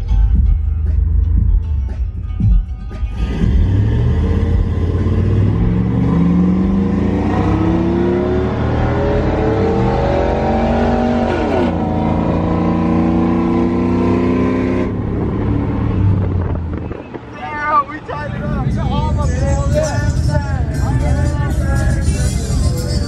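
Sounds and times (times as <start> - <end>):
truck engine accelerating: 3.0 - 17.2, 18.2 - 23.0.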